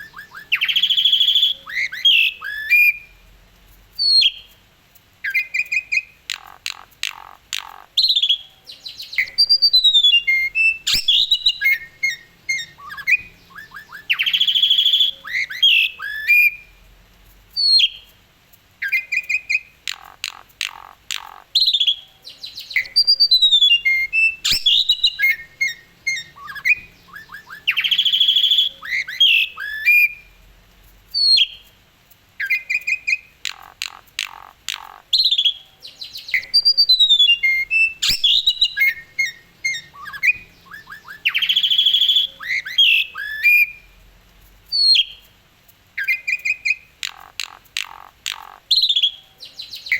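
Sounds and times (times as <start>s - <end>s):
starling singing whistles and squawks: 0.0s - 3.2s, 5.2s - 16.7s, 18.8s - 30.3s, 32.4s - 43.9s, 46.0s - 49.9s.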